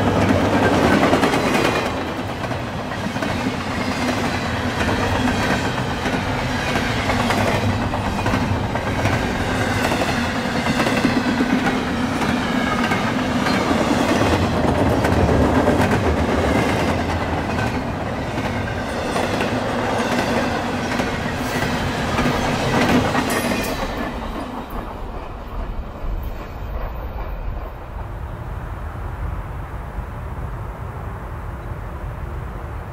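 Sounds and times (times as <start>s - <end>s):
freight train rolling on rails: 0.0s - 32.9s.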